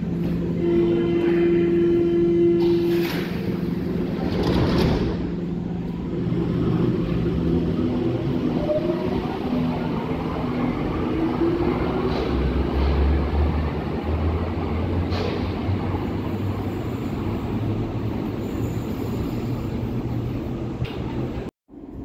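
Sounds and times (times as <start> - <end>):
train wheels rumbling on rails: 2.6 - 22.0.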